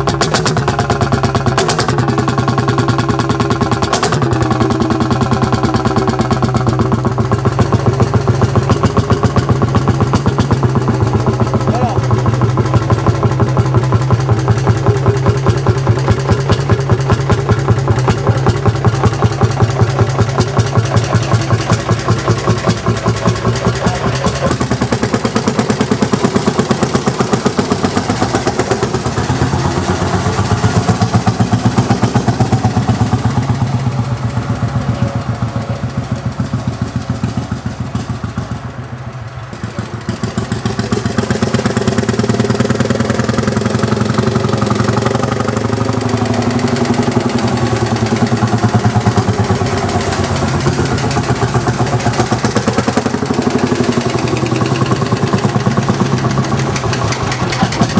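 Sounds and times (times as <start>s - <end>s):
tractor engine pulsing: 0.0s - 57.9s.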